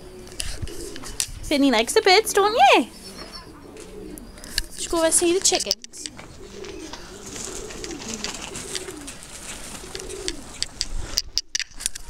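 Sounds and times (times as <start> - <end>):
pigeons cooing: 0.0 - 11.5.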